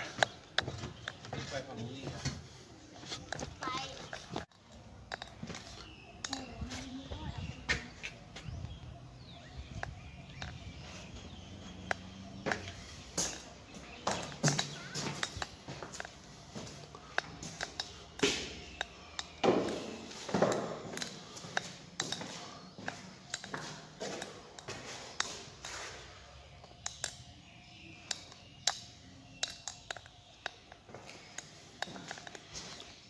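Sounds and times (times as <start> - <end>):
footsteps on stone floor: 0.0 - 26.8, 29.8 - 33.0.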